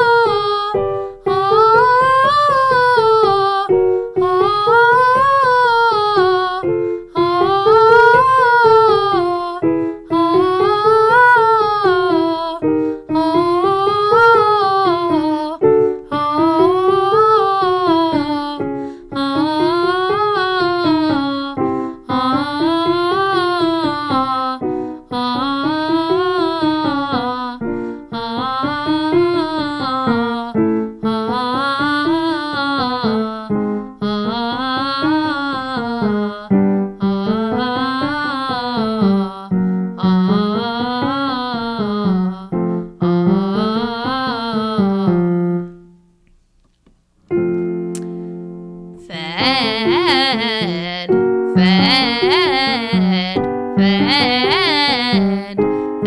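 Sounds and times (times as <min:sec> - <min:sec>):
woman singing vocal warmup: 0:00.0 - 0:46.2, 0:48.9 - 0:56.0
piano accompaniment: 0:00.0 - 0:46.3, 0:47.1 - 0:56.0.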